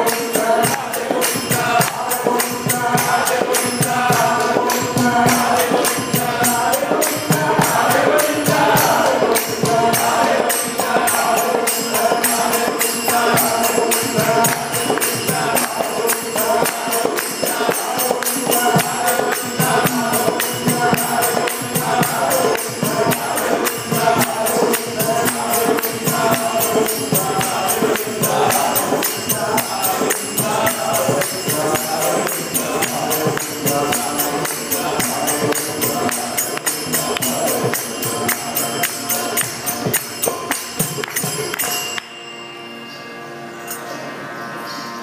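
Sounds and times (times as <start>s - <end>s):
mridangam drum strokes: 0.0s - 41.9s
voices singing devotional music: 0.0s - 45.0s.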